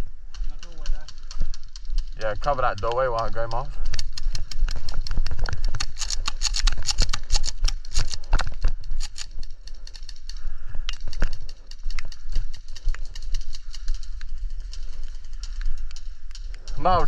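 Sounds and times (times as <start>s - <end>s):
airsoft guns clicking: 0.3s - 17.0s.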